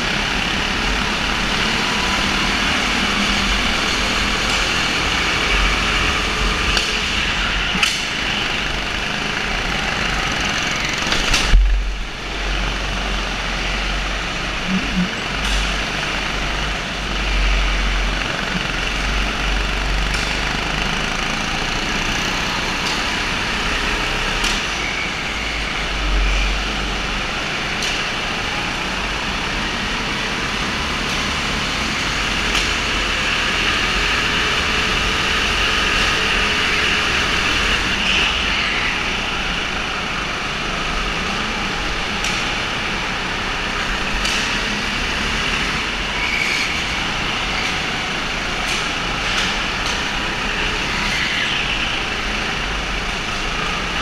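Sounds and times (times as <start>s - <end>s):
go-kart engine drone: 0.0s - 54.0s.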